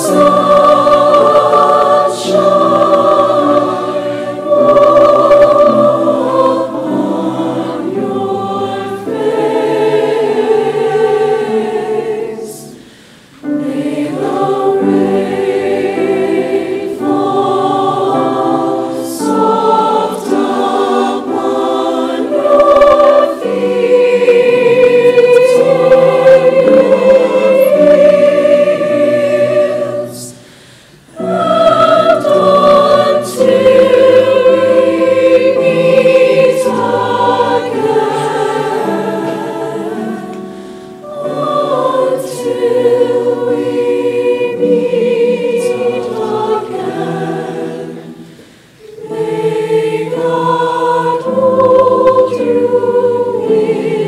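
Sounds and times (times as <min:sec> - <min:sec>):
grand piano accompaniment: 0:00.0 - 0:54.0
mixed choir singing: 0:00.0 - 0:54.0.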